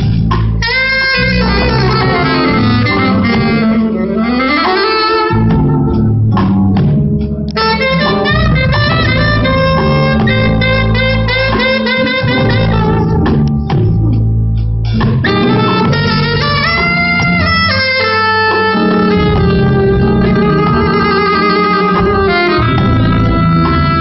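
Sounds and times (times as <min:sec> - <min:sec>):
drum kit hits: 0:00.0 - 0:04.0, 0:04.6 - 0:24.0
bass: 0:00.0 - 0:24.0
saxophone melody: 0:00.0 - 0:24.0.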